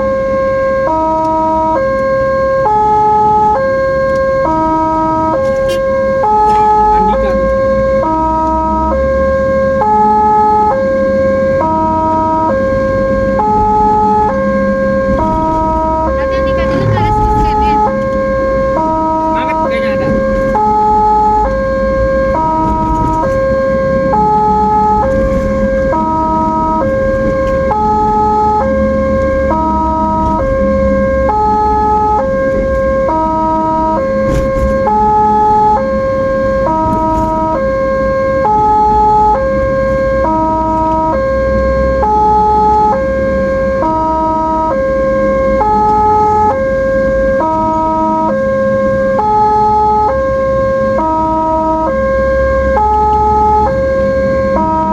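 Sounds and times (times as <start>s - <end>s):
ambulance siren two-tone: 0.0s - 54.9s
road and engine rumble: 0.0s - 54.9s.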